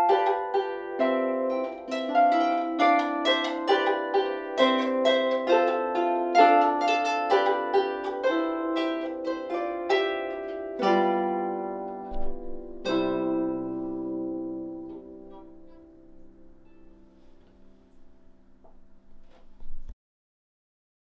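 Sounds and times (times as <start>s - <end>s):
deep harp chords: 0.0s - 18.6s
harp plucked notes: 0.0s - 19.4s.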